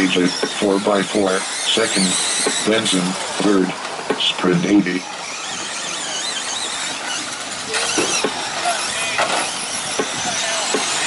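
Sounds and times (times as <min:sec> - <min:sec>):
rc truck motors whining: 0:00.0 - 0:11.0.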